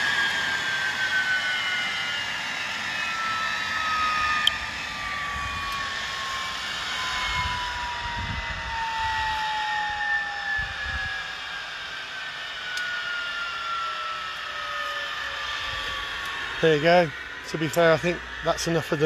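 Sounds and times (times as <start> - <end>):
turbine engine whine winding down: 0.0 - 19.0.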